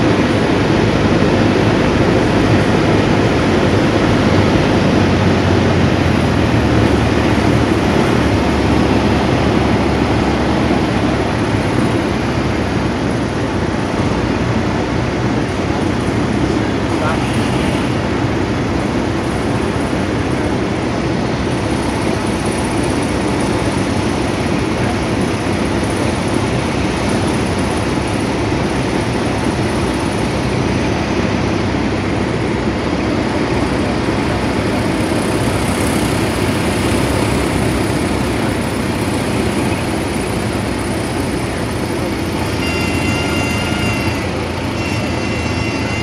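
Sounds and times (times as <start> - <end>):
rushing airflow: 0.0 - 43.0
plane engine and propeller: 0.0 - 46.0.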